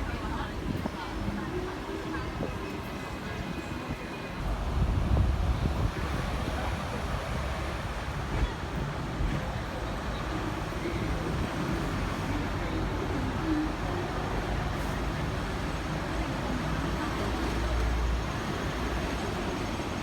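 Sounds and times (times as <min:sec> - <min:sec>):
tram rumble and road noise: 0:00.0 - 0:20.0.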